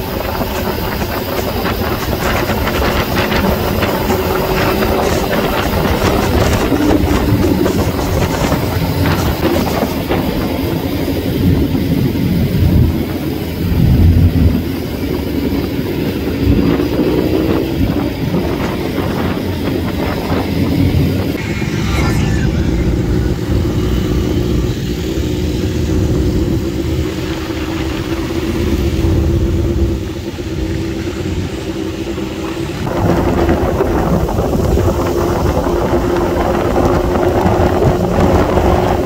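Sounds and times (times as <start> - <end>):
motorcycle engines rumbling: 0.0 - 39.0
road and wind noise: 0.0 - 39.0.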